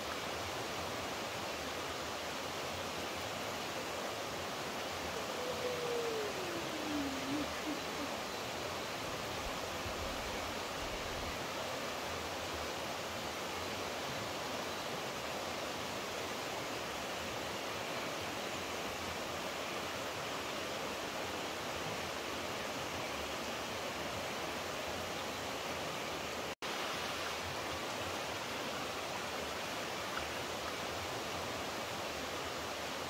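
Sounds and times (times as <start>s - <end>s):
flowing water rushing: 0.0s - 33.0s.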